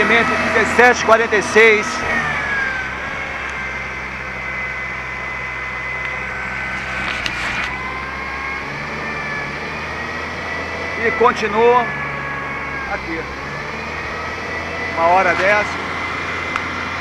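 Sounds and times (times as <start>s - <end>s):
high steady whine: 0.0s - 17.0s
truck engine running: 0.0s - 17.0s.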